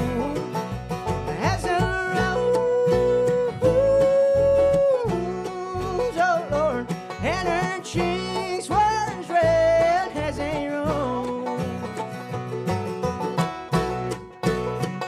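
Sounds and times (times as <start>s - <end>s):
bluegrass band playing: 0.0s - 15.0s
plucked banjo: 0.0s - 15.0s.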